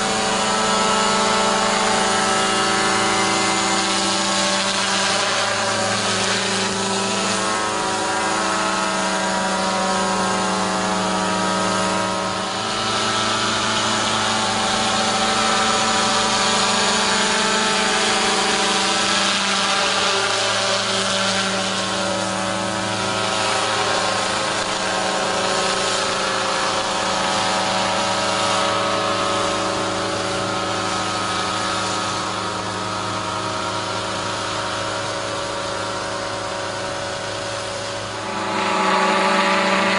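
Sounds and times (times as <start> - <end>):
motor droning hum: 0.0 - 39.9.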